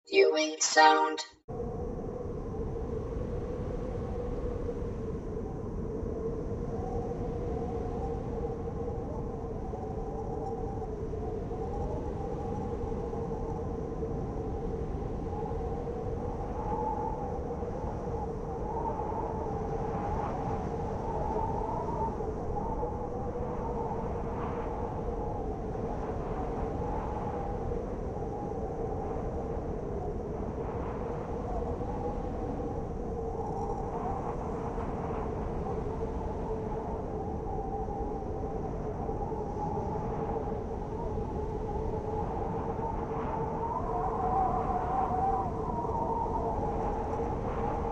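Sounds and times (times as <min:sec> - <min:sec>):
blizzard wind howling: 0:01.5 - 0:47.9.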